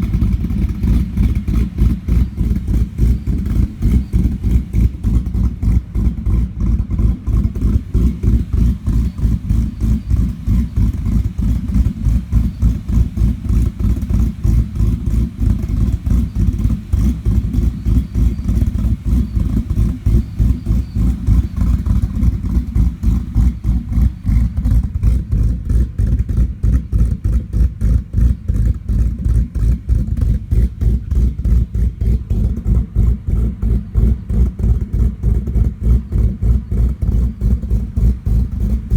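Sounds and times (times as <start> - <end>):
car engine idling with loping beat: 0.0 - 38.9.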